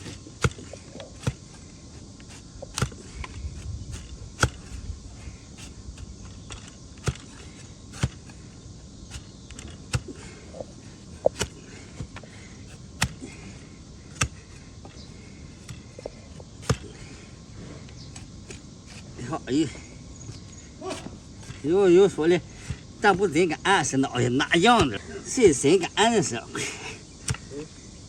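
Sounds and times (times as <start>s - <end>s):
low steady background noise: 0.0s - 28.0s.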